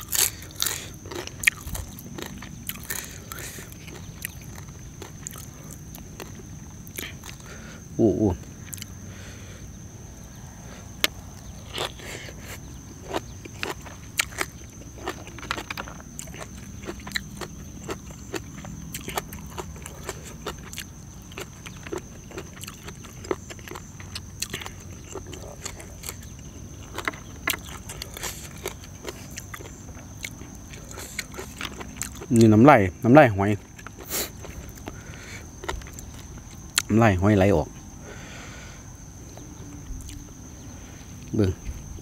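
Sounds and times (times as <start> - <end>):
crunching and chewing: 0.0 - 42.0.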